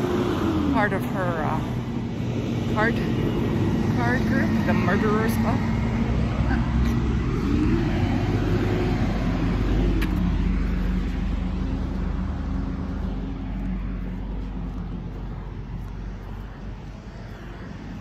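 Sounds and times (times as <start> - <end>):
motor vehicle passing: 0.0 - 18.0.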